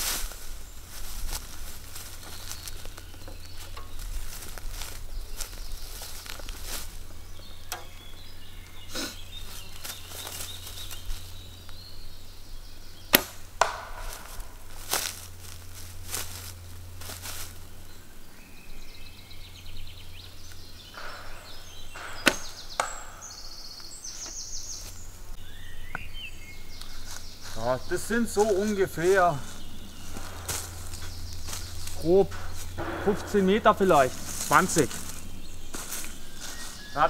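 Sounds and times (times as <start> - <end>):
footsteps on dry leaves: 0.0 - 37.0.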